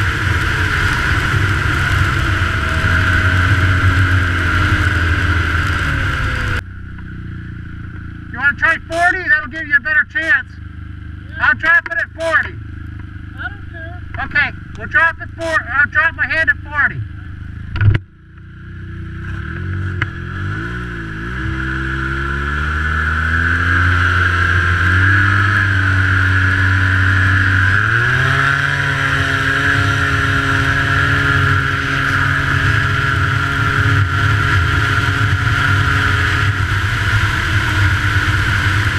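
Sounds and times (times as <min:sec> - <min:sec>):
high engine whine: 0:00.0 - 0:38.9
snowmobile engine at full throttle: 0:00.0 - 0:38.9.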